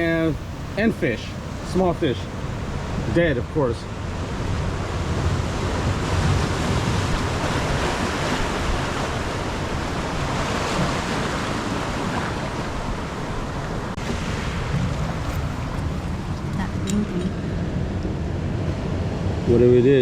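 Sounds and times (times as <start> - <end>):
ocean surf washing ashore: 0.0 - 20.0.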